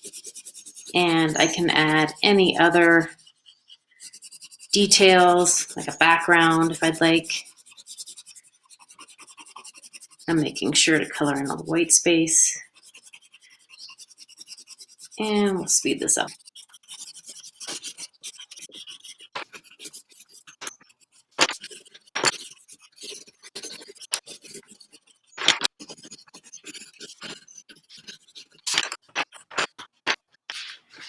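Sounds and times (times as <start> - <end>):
scratchy strokes on paper: 0.0 - 29.7.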